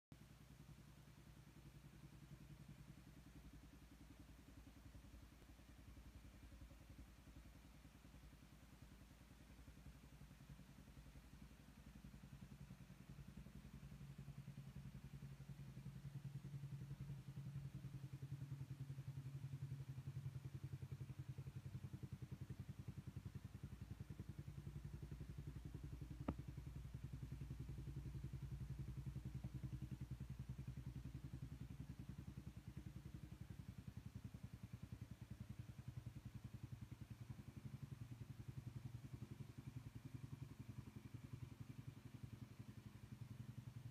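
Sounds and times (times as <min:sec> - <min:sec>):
atv engine idling: 0:00.2 - 0:43.9.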